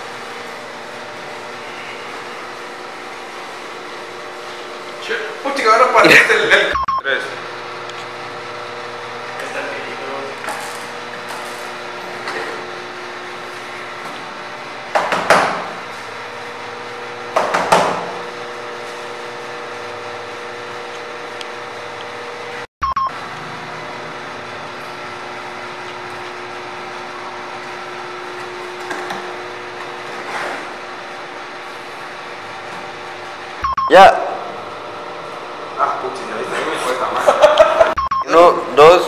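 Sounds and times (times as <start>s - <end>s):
electric appliance hum: 0.0s - 39.0s.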